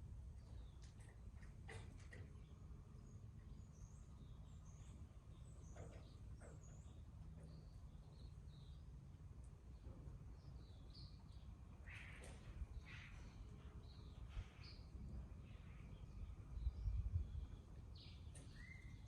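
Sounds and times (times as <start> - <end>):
birds chirping: 0.1 - 19.0.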